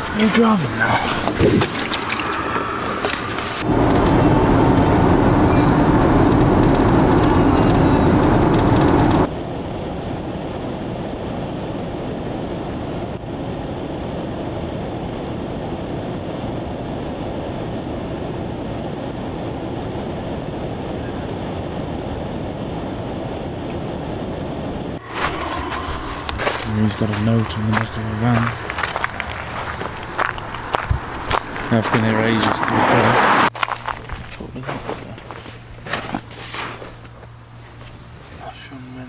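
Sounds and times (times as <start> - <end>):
van engine and road noise: 0.0 - 39.0.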